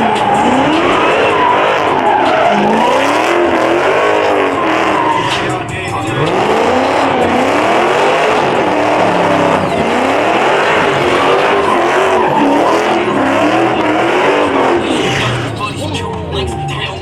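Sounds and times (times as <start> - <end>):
car engine revving: 0.0 - 17.0
tyres squealing on pavement: 0.0 - 17.0.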